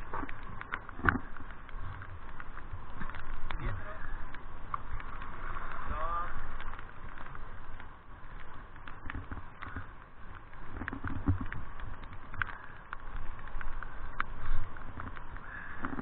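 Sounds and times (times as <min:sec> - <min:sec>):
rain hissing on river: 0:00.0 - 0:16.0
raindrops ticking on camera housing: 0:00.0 - 0:16.0.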